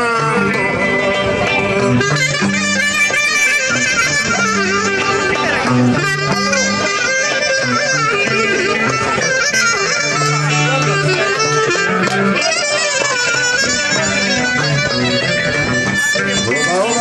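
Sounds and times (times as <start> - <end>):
folk dance music over speakers: 0.0 - 17.0.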